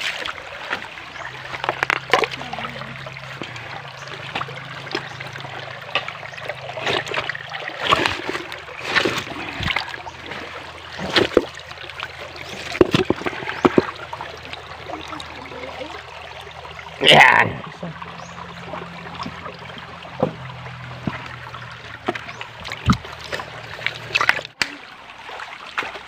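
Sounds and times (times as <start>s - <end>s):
creek water trickling: 0.0s - 26.0s.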